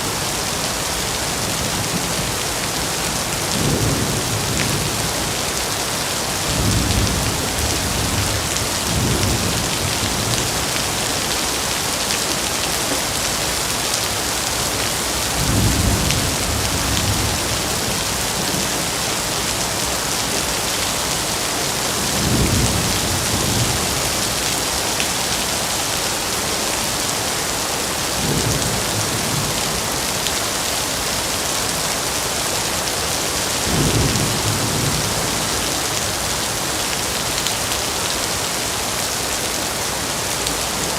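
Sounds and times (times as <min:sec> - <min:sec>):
steady rain in forest: 0:00.0 - 0:40.9.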